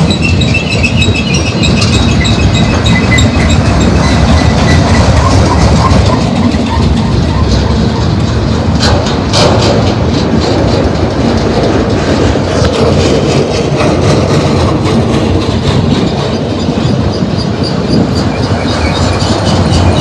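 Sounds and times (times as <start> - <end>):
clickety-clack over rail joints: 0.0 - 20.0
freight train wheels rumbling on rail: 0.0 - 20.0.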